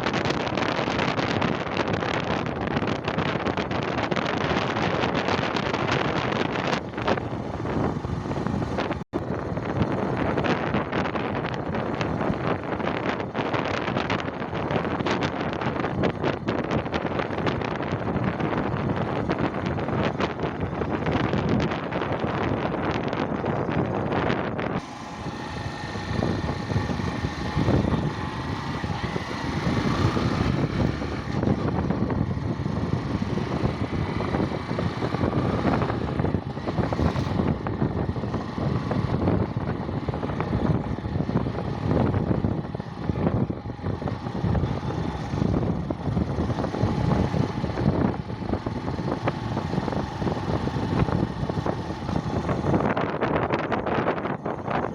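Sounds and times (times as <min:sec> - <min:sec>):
motorcycle engine: 0:00.0 - 0:54.9
wind buffeting microphone: 0:00.0 - 0:54.9.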